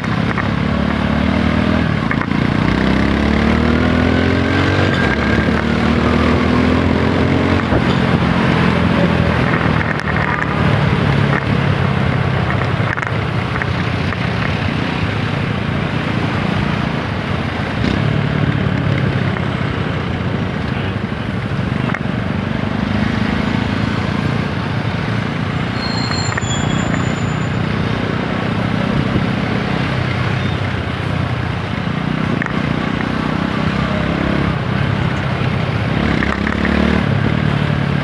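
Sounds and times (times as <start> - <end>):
wind and road rush: 0.0 - 38.0.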